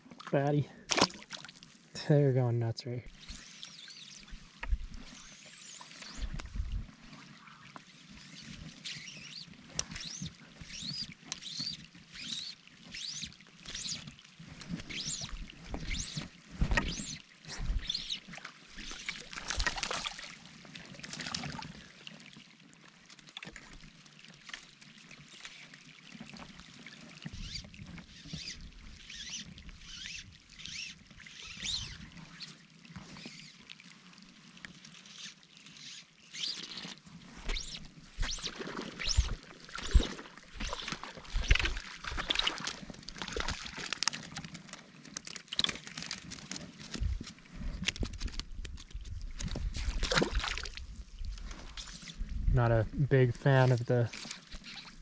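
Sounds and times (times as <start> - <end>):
splashing in shallow water: 0.0 - 1.9, 3.1 - 52.2.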